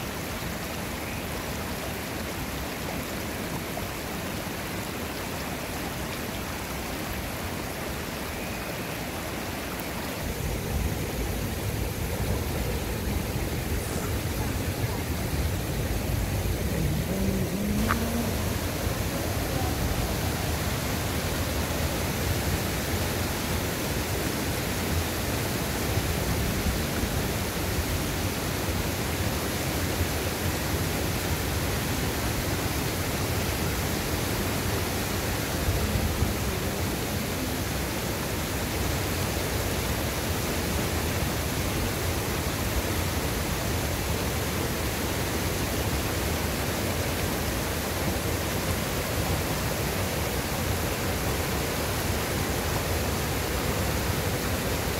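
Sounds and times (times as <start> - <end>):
fast-flowing river rushing: 0.0 - 54.9.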